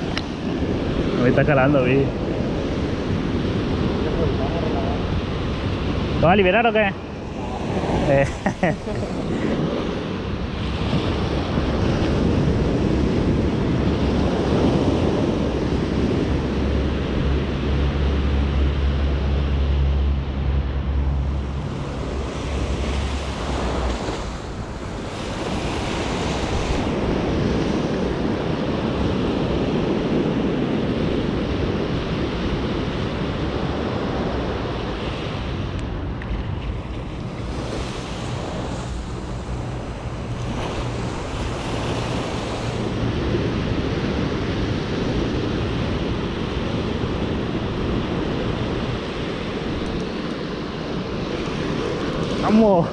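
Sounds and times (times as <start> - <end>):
waves washing onto beach: 0.0 - 52.9
wind buffeting microphone: 0.0 - 52.9.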